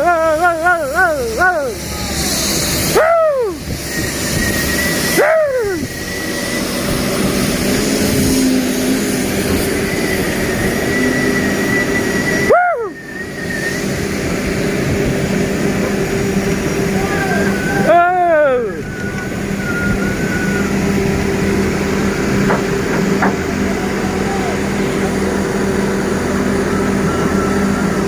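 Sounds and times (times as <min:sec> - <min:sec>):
rising and falling whooping call: 0:00.0 - 0:22.5, 0:23.2 - 0:28.0
engine and machinery noise: 0:00.0 - 0:28.0.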